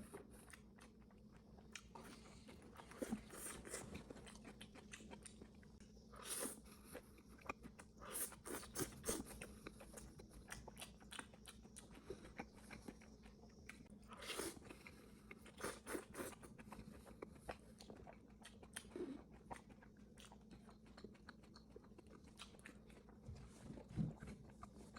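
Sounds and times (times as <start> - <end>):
wet chewing of noodles: 0.0 - 24.9.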